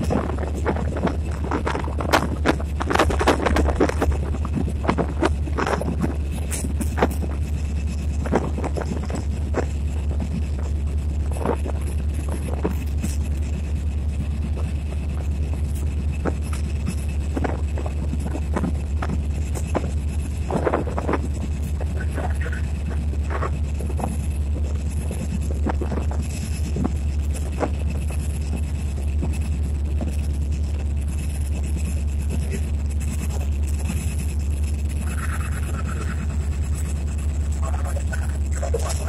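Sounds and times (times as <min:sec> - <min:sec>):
diesel locomotive engine drone: 0:00.0 - 0:39.0
knocks and rattles over track: 0:00.0 - 0:39.0.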